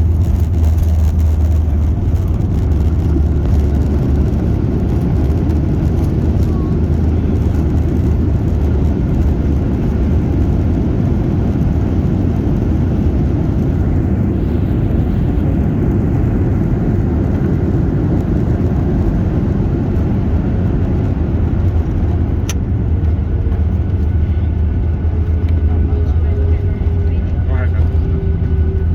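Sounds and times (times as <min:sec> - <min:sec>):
airliner cabin rumble: 0:00.0 - 0:28.9.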